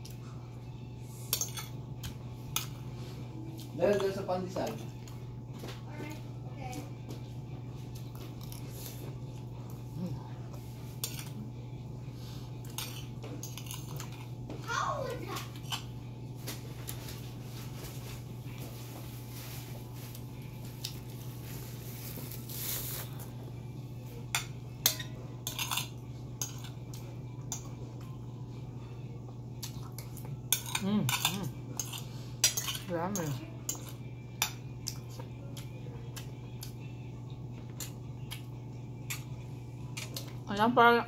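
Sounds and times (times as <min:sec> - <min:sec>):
low hum: 0:04.8 - 0:41.0.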